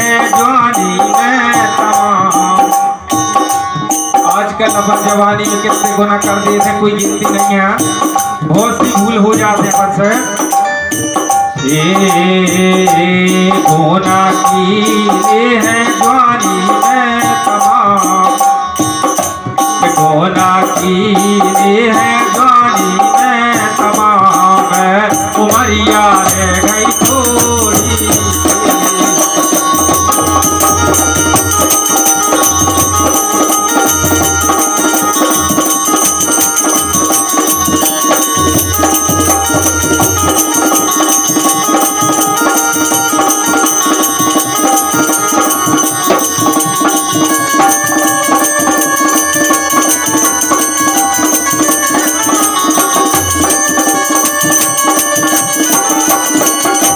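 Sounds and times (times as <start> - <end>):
person singing: 0.0 - 3.5, 4.2 - 56.9
tabla drum beats: 0.0 - 56.9.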